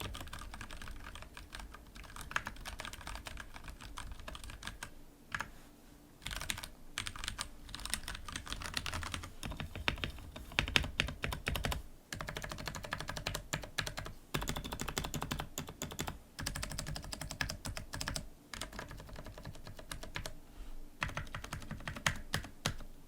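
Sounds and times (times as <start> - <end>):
fast typing on mechanical keyboard: 0.0 - 5.5, 6.2 - 20.4, 21.0 - 22.9.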